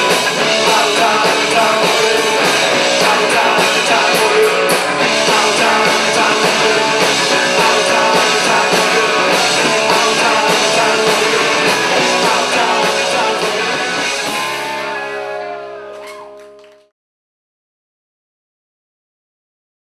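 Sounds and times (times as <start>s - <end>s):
live rock band playing: 0.0s - 16.8s.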